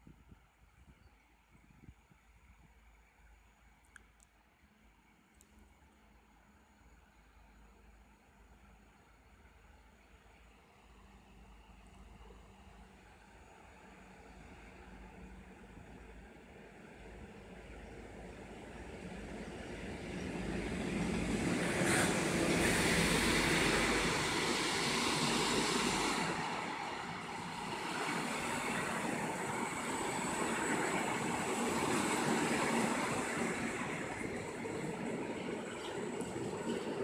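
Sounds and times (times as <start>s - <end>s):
electric locomotive passing: 6.0s - 37.0s.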